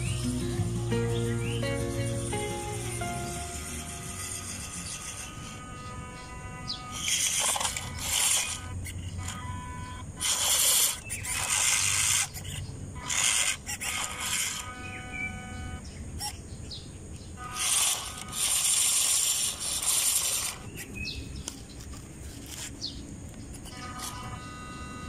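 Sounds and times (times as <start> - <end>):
toy truck electric motor whirring: 0.0 - 16.4, 17.4 - 22.9, 23.5 - 25.0.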